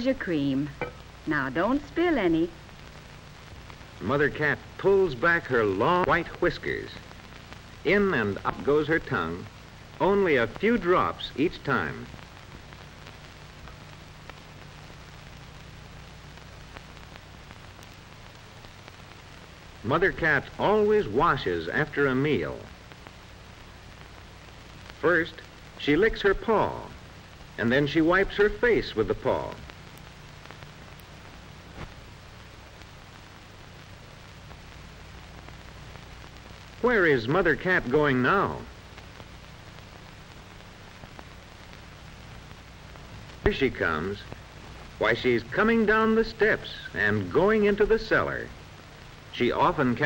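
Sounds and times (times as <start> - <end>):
film soundtrack hiss and crackle: 0.0 - 50.0.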